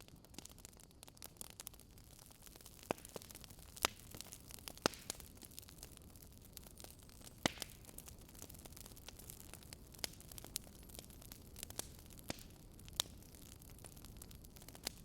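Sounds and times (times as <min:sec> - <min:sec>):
low steady hiss and rumble: 0:00.0 - 0:15.0
wood fire crackling and popping: 0:00.0 - 0:15.0.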